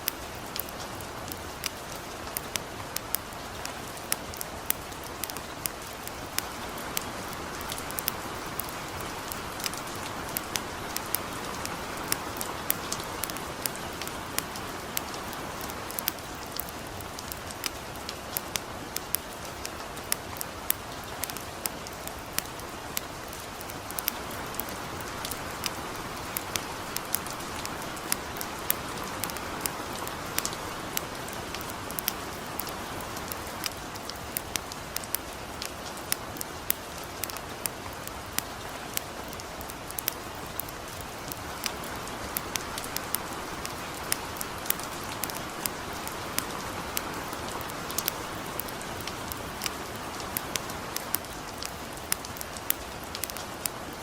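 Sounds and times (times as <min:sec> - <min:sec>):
campfire crackling: 0:00.0 - 0:54.0
light rain hiss: 0:00.0 - 0:54.0.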